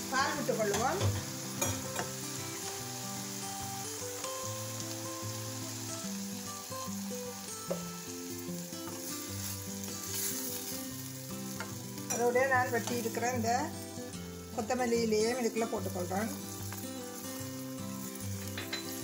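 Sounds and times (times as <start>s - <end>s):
background music: 0.0s - 19.0s
vegetables sizzling in saucepan: 0.0s - 19.0s.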